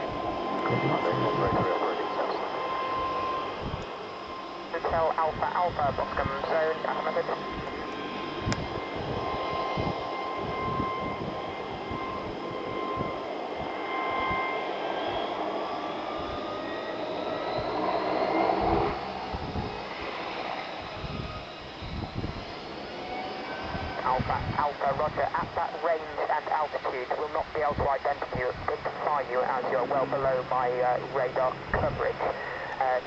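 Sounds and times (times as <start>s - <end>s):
turboprop engines whining: 0.0s - 33.0s.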